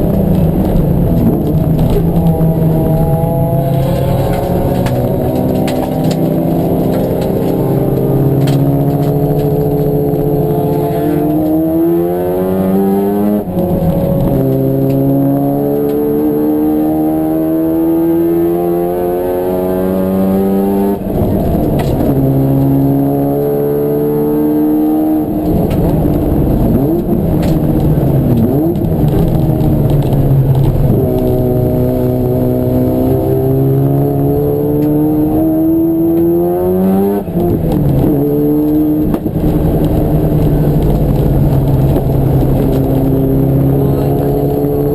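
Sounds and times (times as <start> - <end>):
race car engine accelerating: 0.0 - 44.9.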